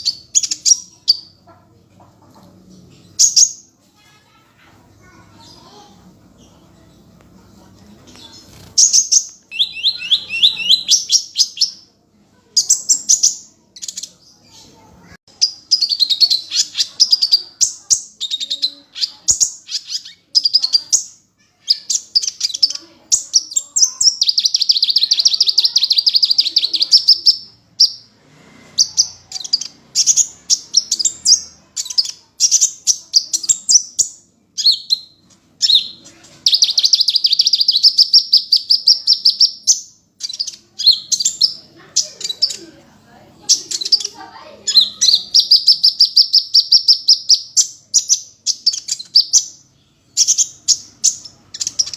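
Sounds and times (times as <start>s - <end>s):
bird chirping and trilling: 0.0s - 1.7s, 2.6s - 7.0s, 8.1s - 42.8s, 43.4s - 51.9s.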